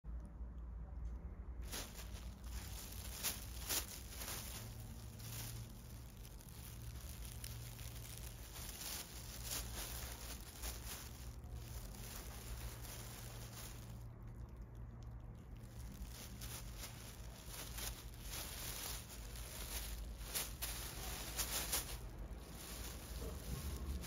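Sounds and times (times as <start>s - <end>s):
plastic bag crinkling: 1.6s - 24.0s.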